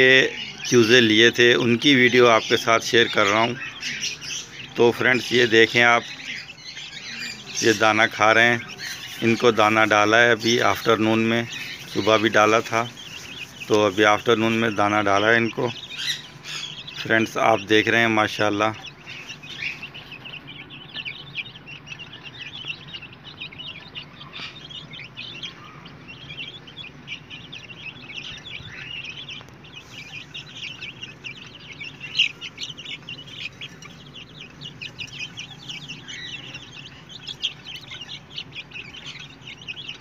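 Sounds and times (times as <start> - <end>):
chicks peeping: 0.0 - 40.0.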